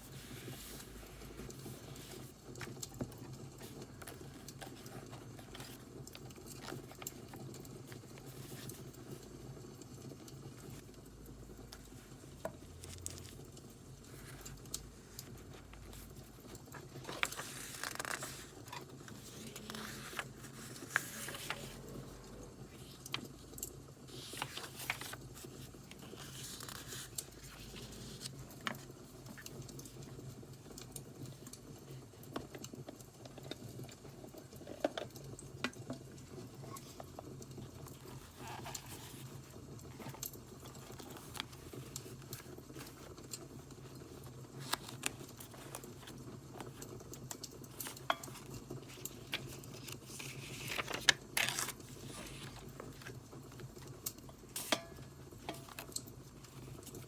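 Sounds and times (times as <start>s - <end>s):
paper rustling and tapping: 0.0s - 9.4s, 10.2s - 21.8s, 24.1s - 30.1s, 36.7s - 57.0s.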